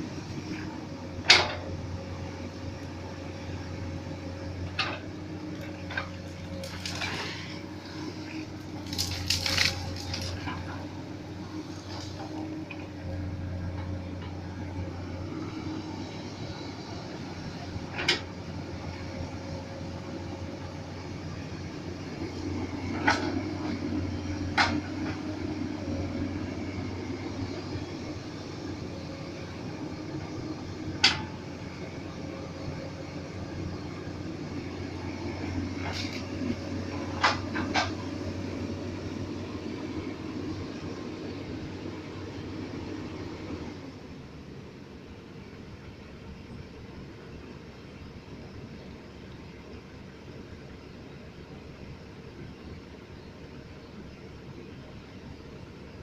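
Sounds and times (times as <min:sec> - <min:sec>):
excavator running: 0:00.0 - 0:56.0.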